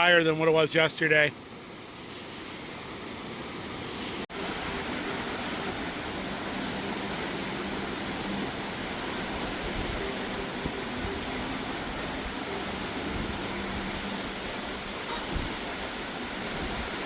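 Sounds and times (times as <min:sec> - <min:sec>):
river rushing: 0:00.2 - 0:17.0.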